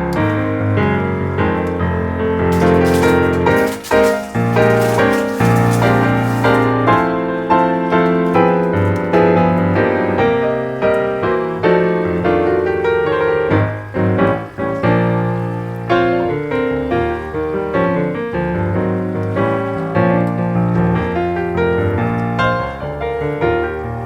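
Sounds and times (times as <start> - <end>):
piano music with bass line: 0.0 - 24.0.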